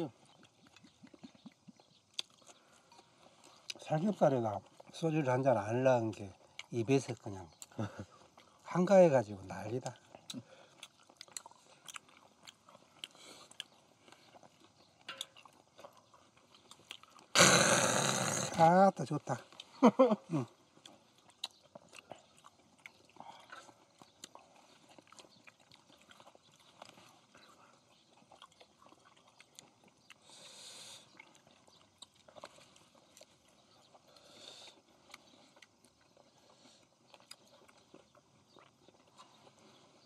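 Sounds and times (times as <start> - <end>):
people chewing: 0.0 - 40.0.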